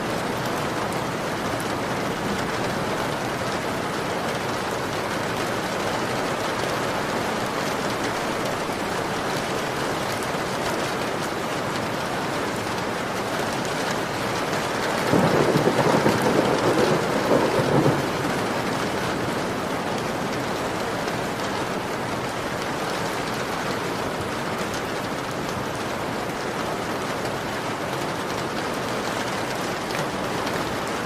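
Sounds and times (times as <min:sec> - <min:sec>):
heavy rain on window: 0:00.0 - 0:31.0.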